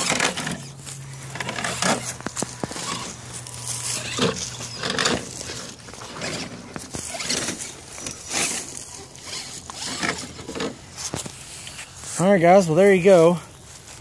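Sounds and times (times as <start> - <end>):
electric motor hum: 0.0 - 12.1
tyres grinding over stones: 0.0 - 12.2.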